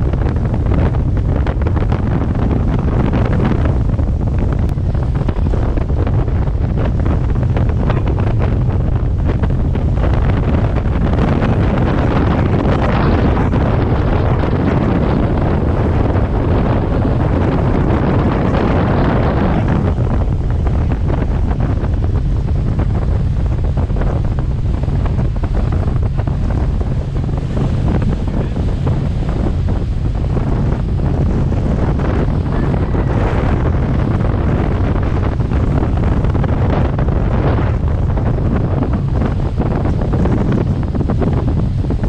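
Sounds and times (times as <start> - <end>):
water rushing: 0.0 - 42.0
wind buffeting microphone: 0.0 - 42.0.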